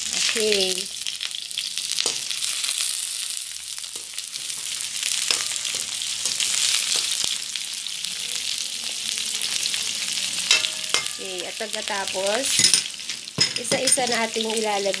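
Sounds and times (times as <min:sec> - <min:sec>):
onion sizzling in a frying pan: 0:00.0 - 0:15.0.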